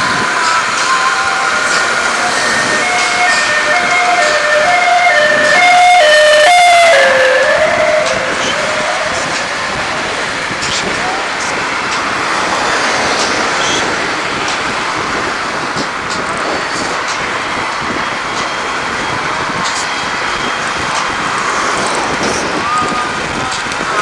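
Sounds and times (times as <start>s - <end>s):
road traffic rushing: 0.0s - 24.0s
wind noise: 0.0s - 24.0s.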